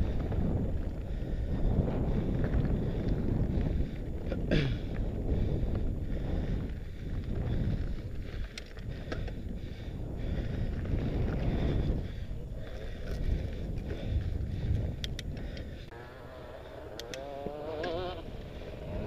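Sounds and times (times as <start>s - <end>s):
wind buffeting microphone: 0.0s - 16.0s, 16.7s - 19.0s
bike tyres rumbling over gravel: 0.0s - 16.7s, 17.4s - 19.0s.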